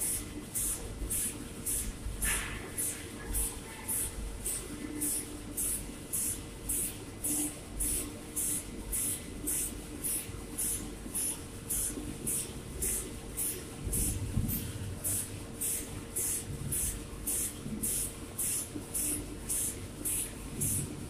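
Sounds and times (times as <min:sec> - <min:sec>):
machinery steady hum: 0:00.0 - 0:21.0.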